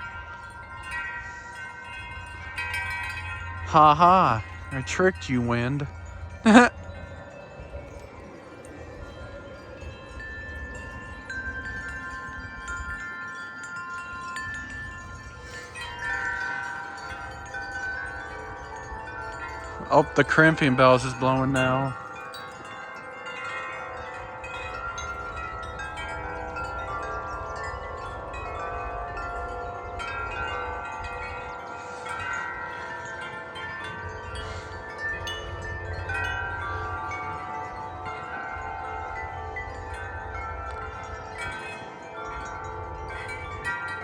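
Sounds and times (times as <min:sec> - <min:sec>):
low wind rumble: 0:00.0 - 0:44.0
wind chime ringing: 0:00.0 - 0:44.0.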